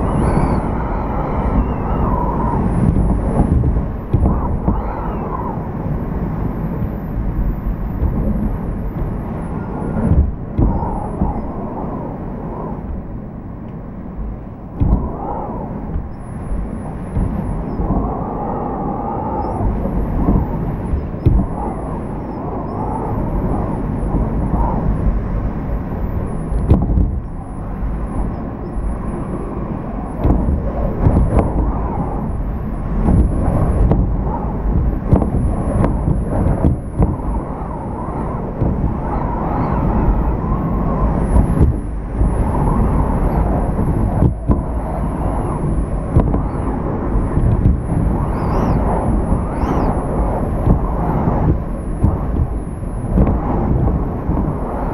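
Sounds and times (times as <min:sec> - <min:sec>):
wavering wind whistle: 0:00.0 - 0:54.9
wind gusting and howling: 0:00.0 - 0:54.9
wind-driven rain: 0:00.0 - 0:54.9.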